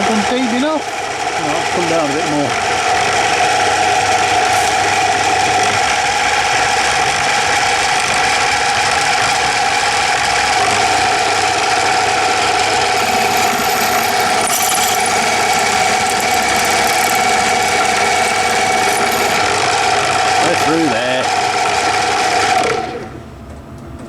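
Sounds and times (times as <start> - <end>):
milling machine drilling aluminium: 0.0 - 23.2.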